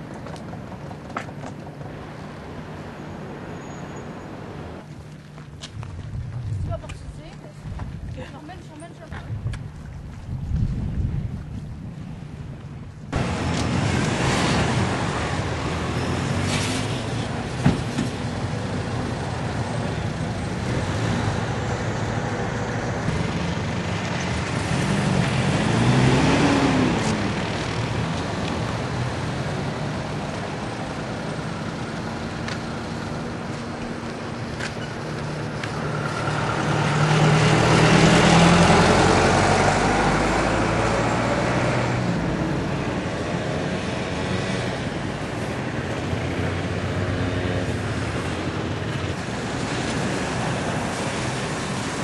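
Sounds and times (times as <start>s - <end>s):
vehicle engines passing by: 0.0s - 52.0s.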